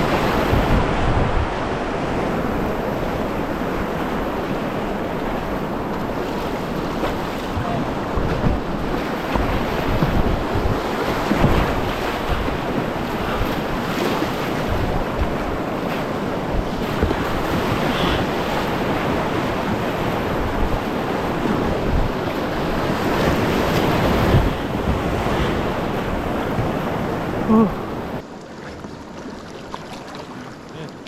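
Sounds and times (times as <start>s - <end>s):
wind buffeting microphone: 0.0s - 28.2s
river water rushing and splashing: 0.0s - 31.0s.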